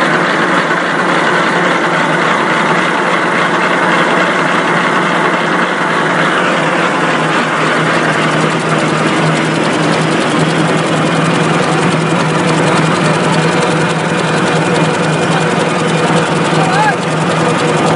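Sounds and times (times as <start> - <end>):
machine mechanical din: 0.0 - 17.9.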